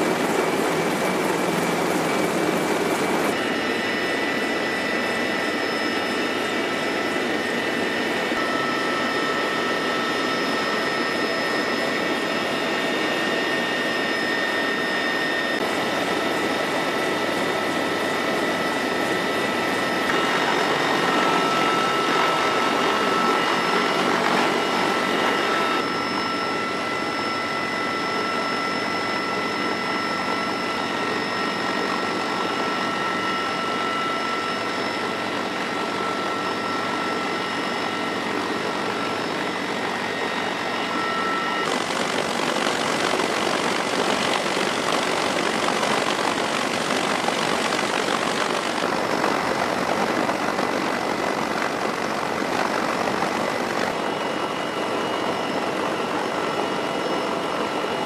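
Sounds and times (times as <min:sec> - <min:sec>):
helicopter turbine and rotor noise: 0:00.0 - 0:58.0
high turbine whine: 0:00.0 - 0:58.0.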